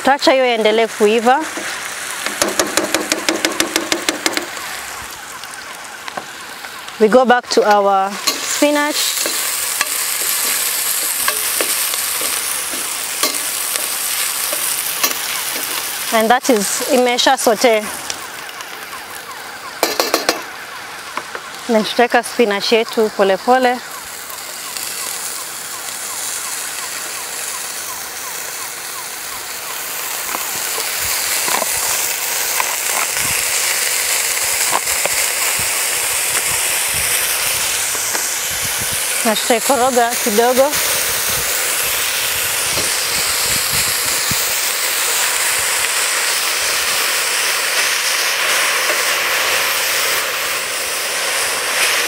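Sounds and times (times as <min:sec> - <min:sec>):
crackles: 0:00.0 - 0:52.0
onions sizzling in hot oil: 0:00.0 - 0:52.0.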